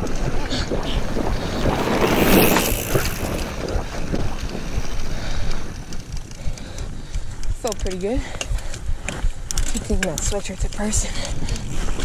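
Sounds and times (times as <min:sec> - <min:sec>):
bike knocking and rattling: 0:00.0 - 0:12.0
wind rushing over microphone: 0:00.0 - 0:12.0.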